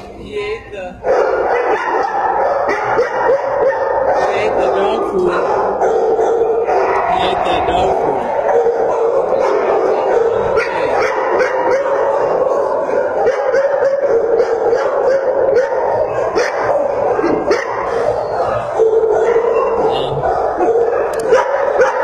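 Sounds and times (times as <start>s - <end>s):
dogs barking and howling: 1.0s - 22.0s.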